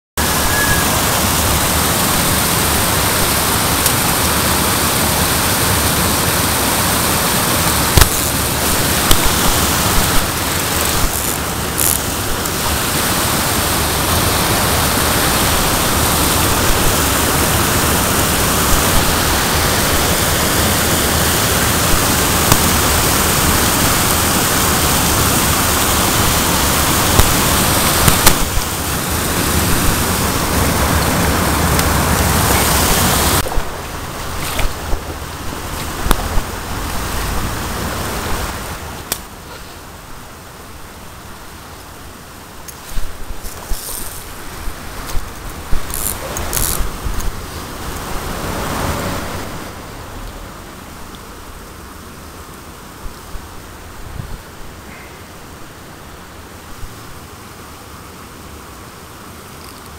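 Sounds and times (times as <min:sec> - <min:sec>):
water rushing over weir: 0:00.2 - 0:59.8.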